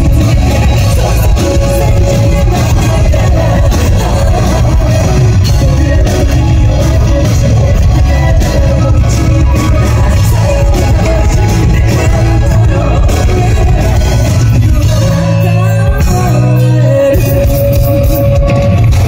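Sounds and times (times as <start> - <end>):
distorted live rock band: 0.0 - 19.0.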